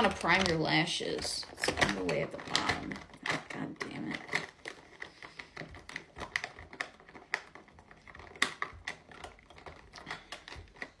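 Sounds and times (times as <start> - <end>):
plastic packaging clicks and crinkles: 0.0 - 11.0.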